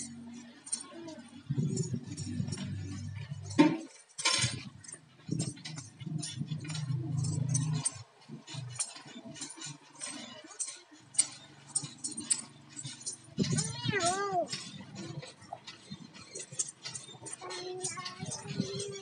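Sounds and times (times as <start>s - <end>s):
anklets jingling: 0.0s - 19.0s.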